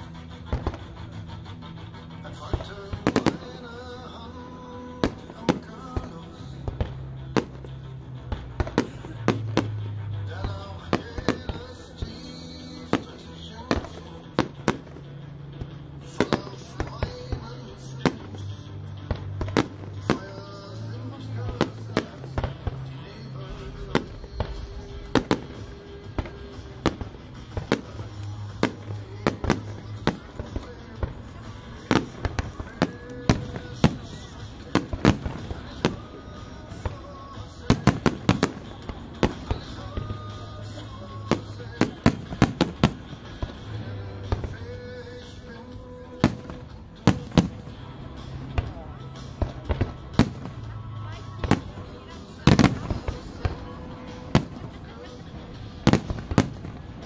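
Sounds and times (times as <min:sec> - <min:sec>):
firework bangs: 0:00.0 - 0:57.0
music: 0:00.0 - 0:57.0.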